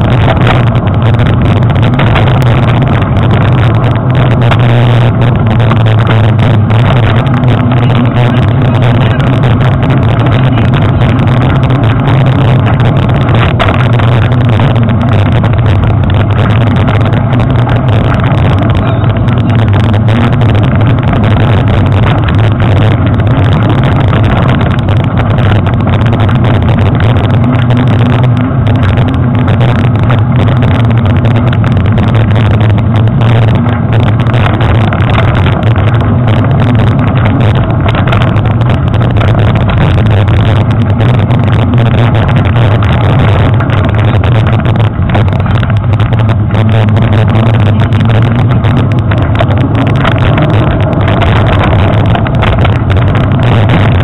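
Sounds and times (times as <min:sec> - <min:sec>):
bike tyre rumble on dirt trail: 0:00.0 - 0:54.0
wind on microphone: 0:00.0 - 0:54.0.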